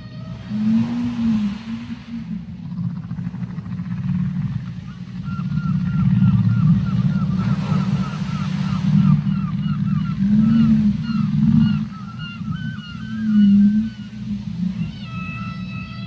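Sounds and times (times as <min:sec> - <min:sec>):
whale chirps underwater: 0:00.0 - 0:02.5, 0:04.6 - 0:16.0
whale low moans: 0:00.0 - 0:16.0.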